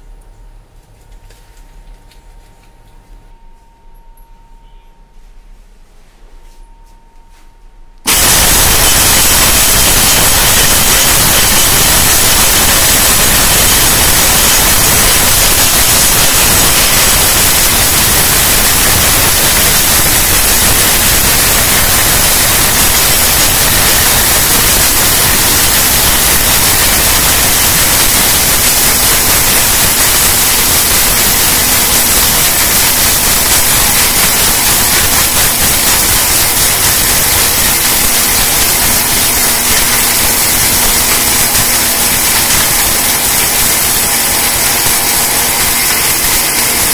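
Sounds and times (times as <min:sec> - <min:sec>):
mixer grinder motor whirring: 0:08.1 - 0:46.9.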